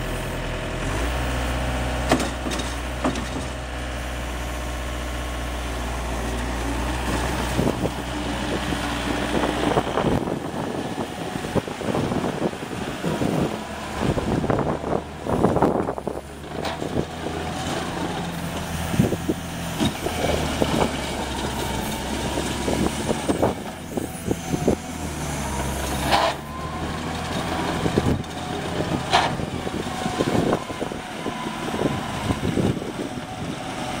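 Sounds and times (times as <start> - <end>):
track loader engine droning: 0.0 - 34.0.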